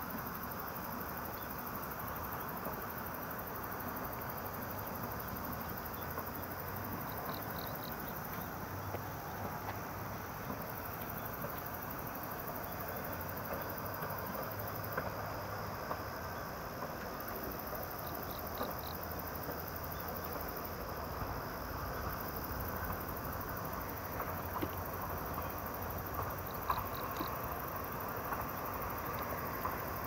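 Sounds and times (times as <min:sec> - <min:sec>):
distant train rumble: 0:00.1 - 0:30.0.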